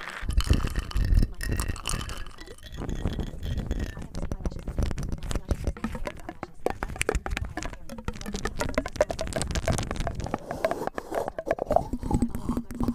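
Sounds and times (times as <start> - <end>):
dense irregular crackling clicks: 0.0 - 12.9.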